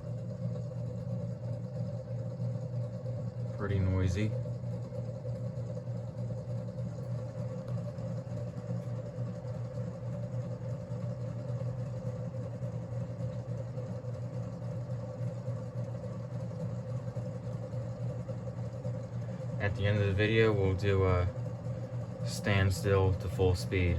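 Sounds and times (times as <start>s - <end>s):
ceiling fan humming and rumbling: 0.0s - 23.9s.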